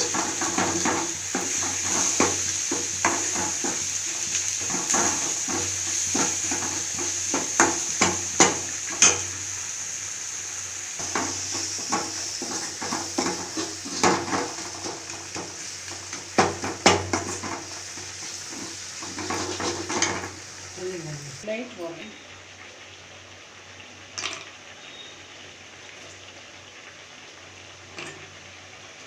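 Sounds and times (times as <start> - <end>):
gravy sizzling in a pan: 0.0 - 29.0.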